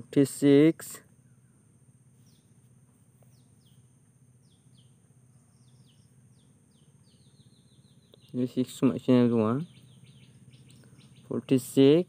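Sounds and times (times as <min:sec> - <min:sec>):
faint low hum: 0:00.0 - 0:12.0
small bird chirping: 0:01.0 - 0:12.0.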